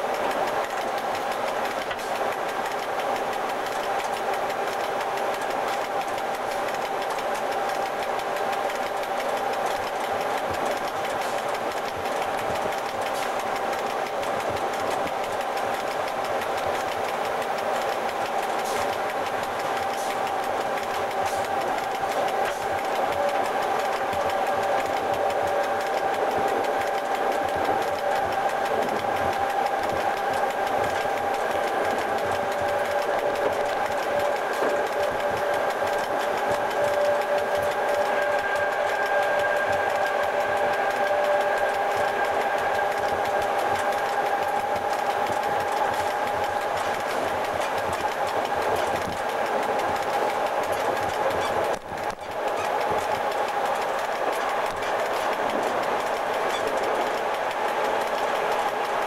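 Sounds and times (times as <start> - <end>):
electric locomotive mechanical drone: 0.0 - 59.0.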